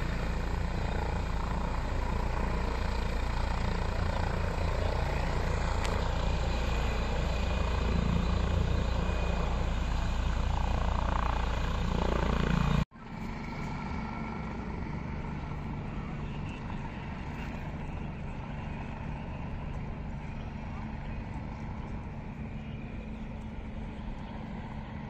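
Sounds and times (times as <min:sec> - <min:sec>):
helicopter rotor and turbine engines: 0:00.0 - 0:25.0.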